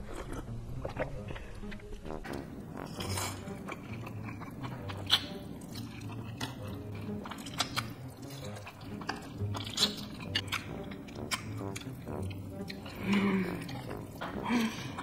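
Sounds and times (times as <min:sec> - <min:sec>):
noodles slurped and chewed: 0:00.0 - 0:15.0.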